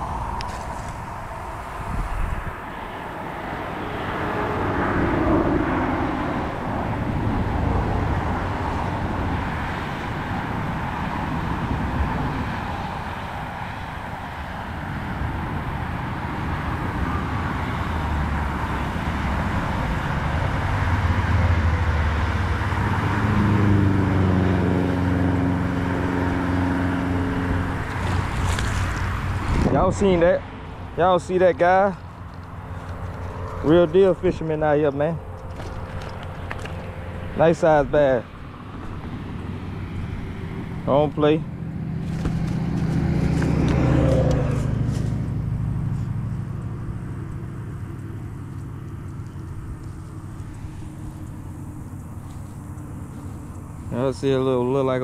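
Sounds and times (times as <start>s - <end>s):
engine droning hum: 0.0s - 55.0s.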